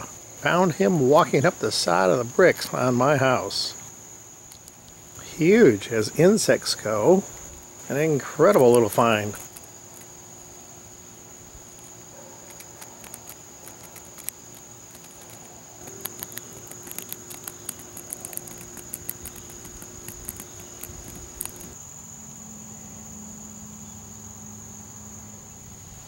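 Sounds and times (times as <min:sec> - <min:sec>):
faint low hum: 0:00.0 - 0:21.8
high-pitched insect trill: 0:00.0 - 0:26.0.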